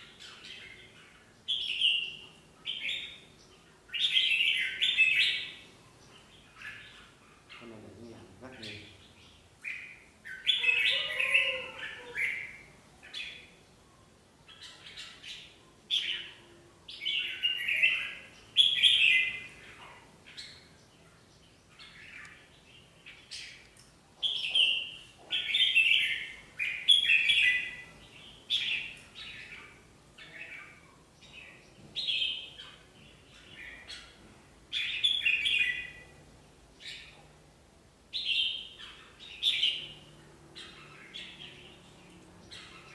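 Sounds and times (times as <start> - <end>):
bulbuls calling: 0.0 - 13.6, 14.5 - 20.8, 21.7 - 37.2.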